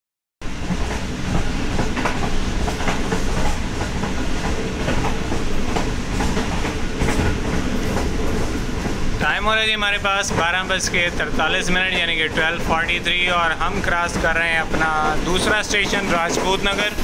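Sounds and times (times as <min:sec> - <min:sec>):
wheel and rail rush: 0:00.4 - 0:17.0.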